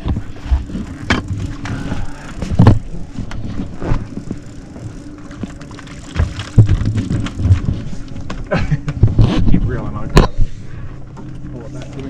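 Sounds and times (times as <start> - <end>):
boat motor humming: 0.0 - 12.0
knocks and rattles on boat: 0.0 - 12.0.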